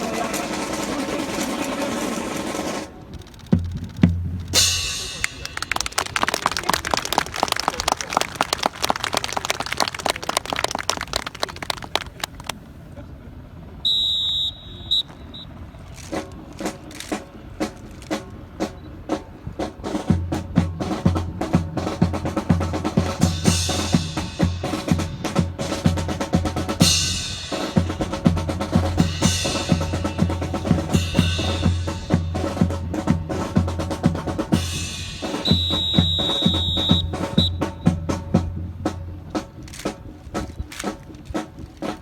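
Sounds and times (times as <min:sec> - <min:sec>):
marching drum cadence: 0:00.0 - 0:12.7, 0:13.8 - 0:42.0.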